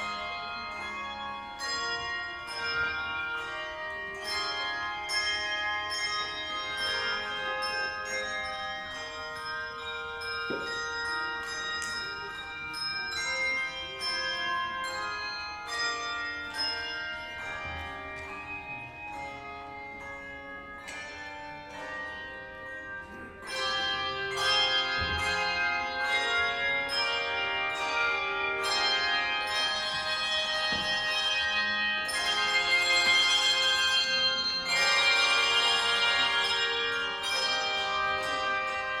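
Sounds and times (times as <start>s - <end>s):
handbell choir playing: 0.0s - 39.0s.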